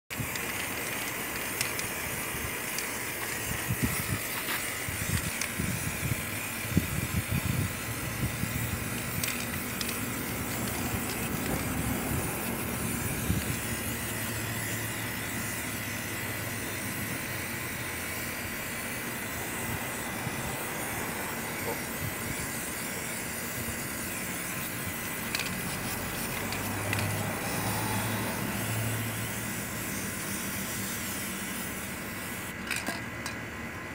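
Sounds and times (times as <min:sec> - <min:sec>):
spray paint can hissing: 0:00.1 - 0:33.4.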